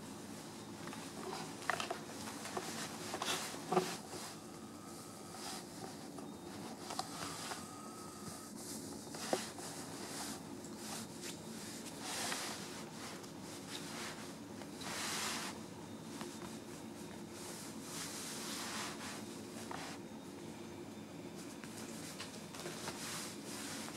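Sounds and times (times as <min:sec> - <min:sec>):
bed sheets rustling: 0:00.0 - 0:20.1, 0:21.4 - 0:23.9
faint steady hum: 0:00.0 - 0:23.9.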